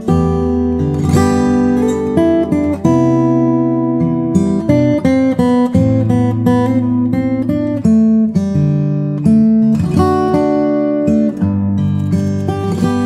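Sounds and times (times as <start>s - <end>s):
acoustic guitar melody: 0.0s - 13.0s.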